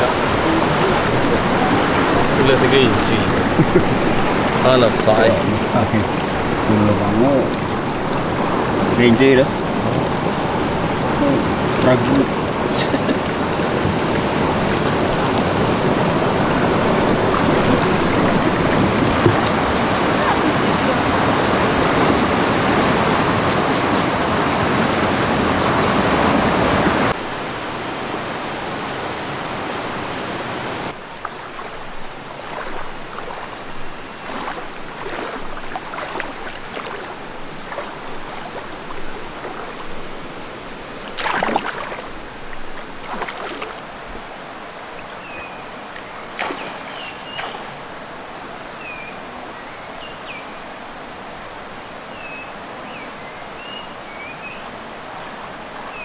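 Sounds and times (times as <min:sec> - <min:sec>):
water lapping with splashes: 0:00.0 - 0:27.2, 0:30.9 - 0:49.5
high insect buzz: 0:00.0 - 0:56.0
river rushing over rapids: 0:00.0 - 0:56.0.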